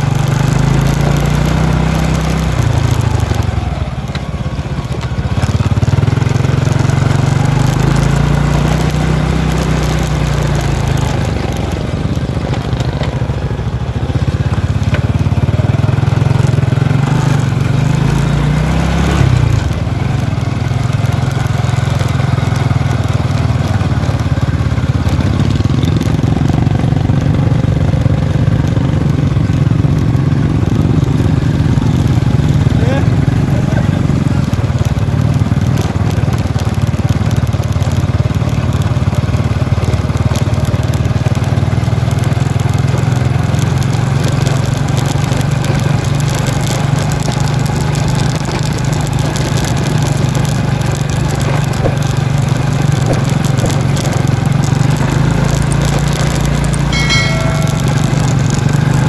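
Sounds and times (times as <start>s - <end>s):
small motorcycle engine revving: 0.0s - 59.0s.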